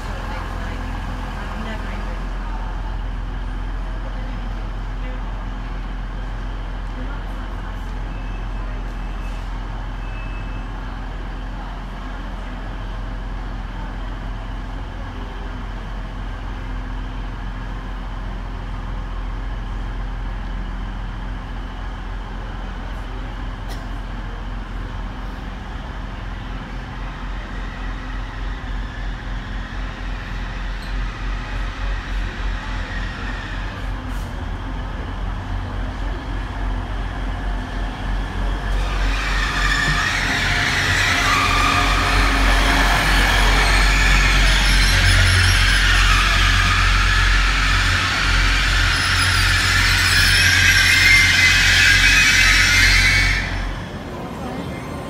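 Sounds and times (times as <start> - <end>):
train engine droning: 0.0 - 55.0.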